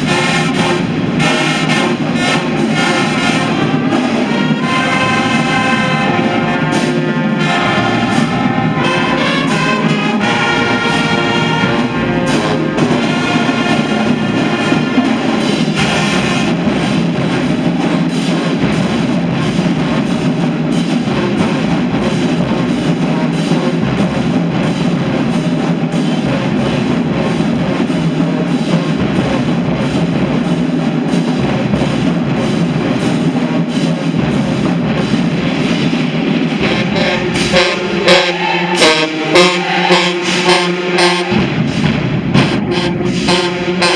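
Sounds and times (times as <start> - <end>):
drums beating: 0.0 - 43.9
marching band playing: 0.0 - 43.9.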